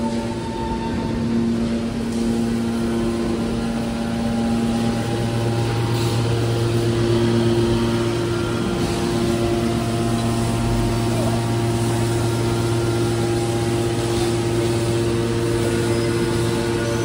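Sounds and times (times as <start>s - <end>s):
hydraulic pump humming drone: 0.0s - 17.0s.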